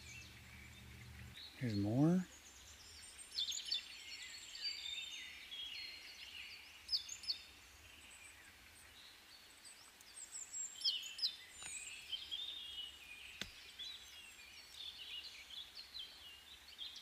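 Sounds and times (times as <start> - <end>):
small birds chirping and singing: 0.0 - 17.0.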